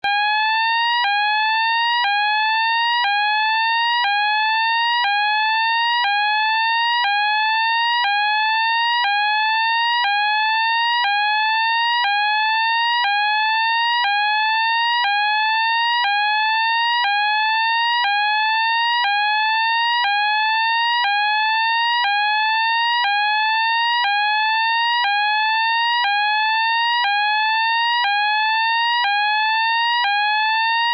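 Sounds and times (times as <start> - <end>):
fire alarm sweeping tone: 0.0 - 30.9.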